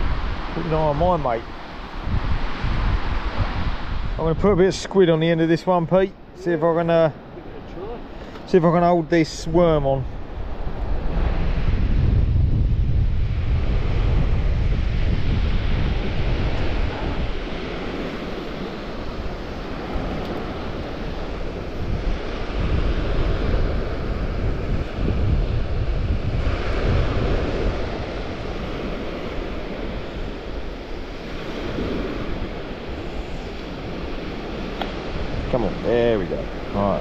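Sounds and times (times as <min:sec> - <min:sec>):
surf washing on beach: 0:00.0 - 0:37.0
wind buffeting microphone: 0:00.0 - 0:37.0.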